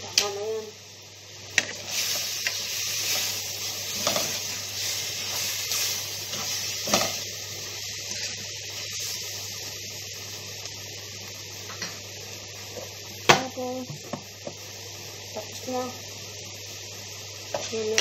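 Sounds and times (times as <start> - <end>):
chicken sizzling in pan: 0.0 - 18.0.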